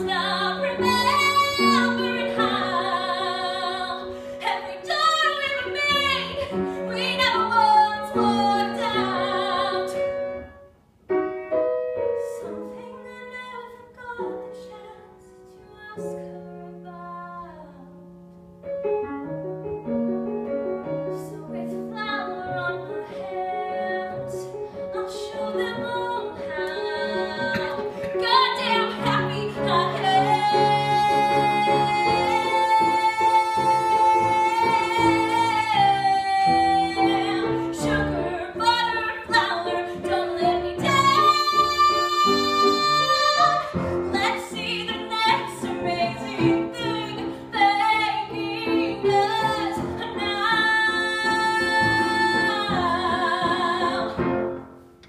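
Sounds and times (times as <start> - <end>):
woman singing: 0.0 - 10.2, 12.2 - 18.0, 21.1 - 54.3
piano accompaniment: 0.0 - 55.0.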